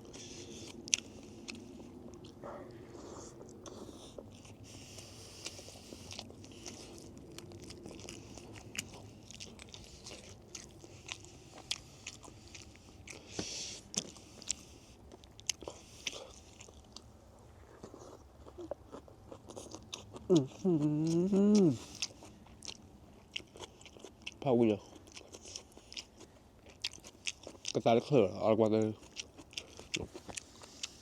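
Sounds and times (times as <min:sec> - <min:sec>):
person biting and chewing: 0:00.0 - 0:27.8, 0:29.0 - 0:31.0.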